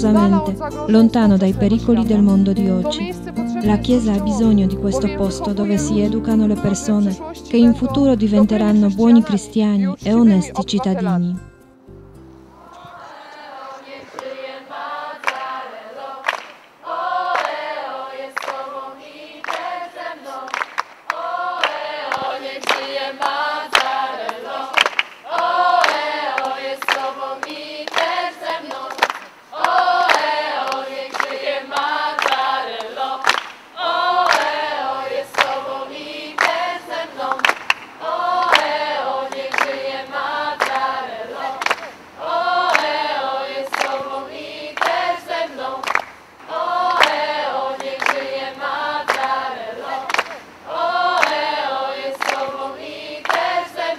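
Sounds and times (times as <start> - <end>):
choir singing: 0.0 - 10.7, 12.5 - 53.9.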